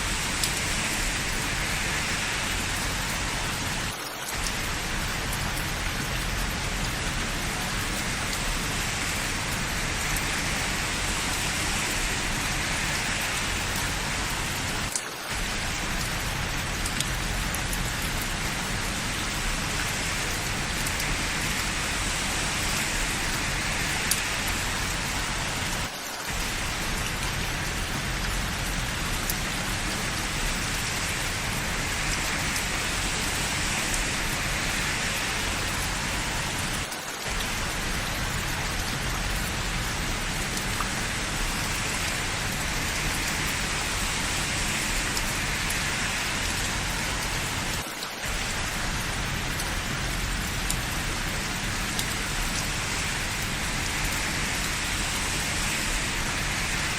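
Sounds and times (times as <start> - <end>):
steady rain falling: 0.0 - 56.9
raindrop ticks: 0.1 - 22.0, 22.6 - 56.9.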